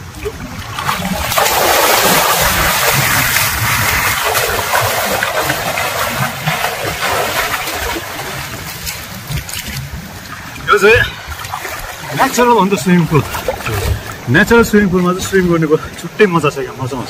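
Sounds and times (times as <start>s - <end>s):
river water rushing and splashing: 0.0s - 17.0s.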